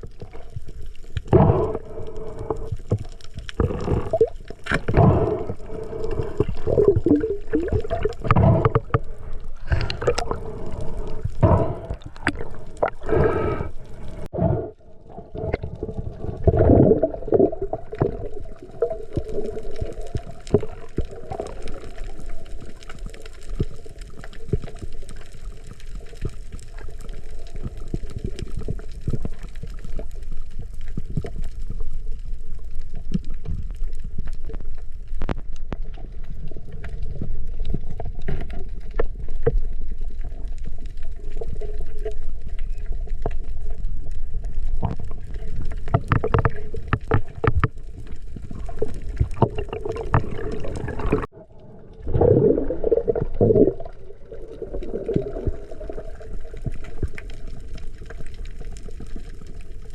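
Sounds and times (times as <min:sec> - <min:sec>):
water gurgling underwater: 0:00.0 - 0:59.9.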